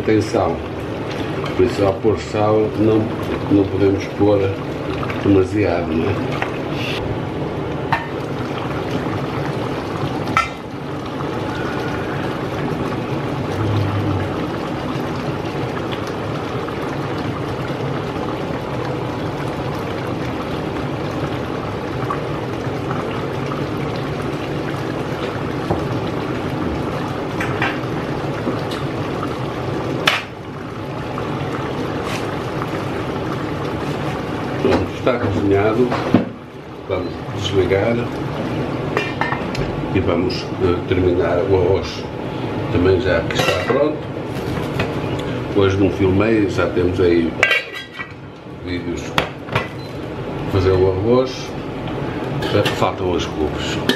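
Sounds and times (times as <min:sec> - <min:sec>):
stew bubbling in pot: 0:00.0 - 0:53.9.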